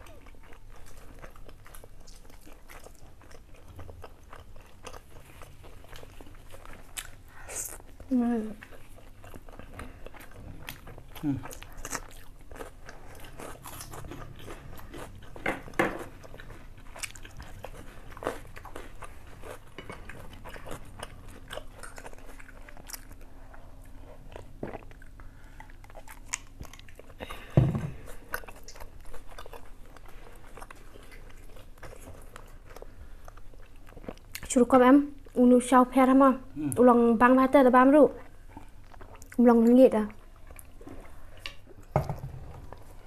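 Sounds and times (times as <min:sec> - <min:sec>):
people chewing food: 0:00.0 - 0:43.0.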